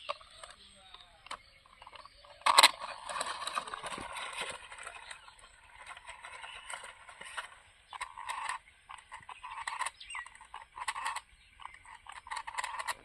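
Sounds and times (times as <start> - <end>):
rattling and crunching: 0.0 - 13.0
toy truck knocking: 0.0 - 13.0.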